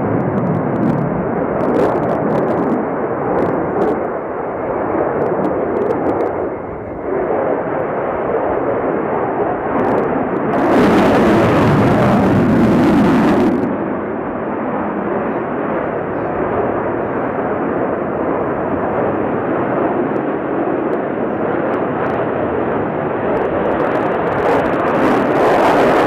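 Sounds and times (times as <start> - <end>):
fighter jet engine rushing: 0.0 - 26.0.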